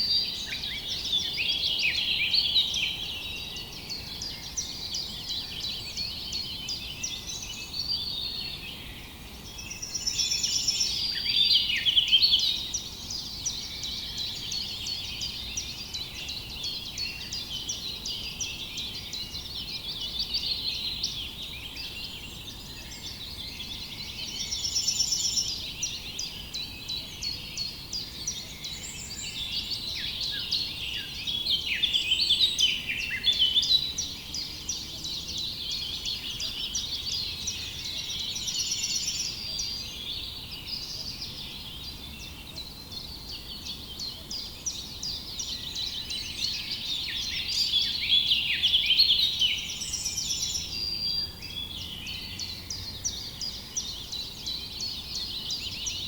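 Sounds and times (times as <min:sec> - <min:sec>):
many small birds chirping: 0:00.0 - 0:56.0.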